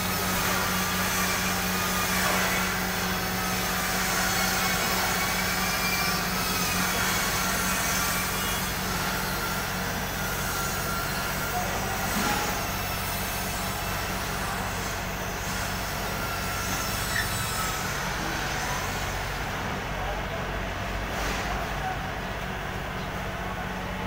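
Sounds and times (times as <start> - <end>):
diesel engine running under load: 0.0 - 24.0
hydraulics whining: 0.0 - 24.0.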